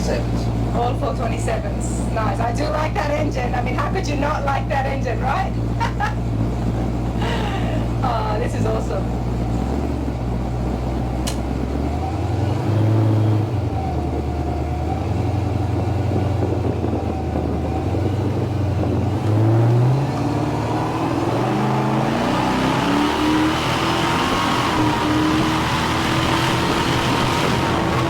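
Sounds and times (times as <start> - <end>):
truck engine accelerating: 0.0 - 28.0.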